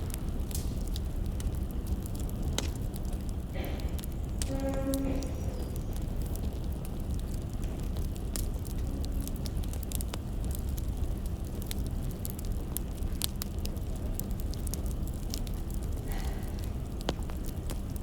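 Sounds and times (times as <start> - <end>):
firewood fire crackling: 0.0 - 18.0
steady low rumble: 0.0 - 18.0.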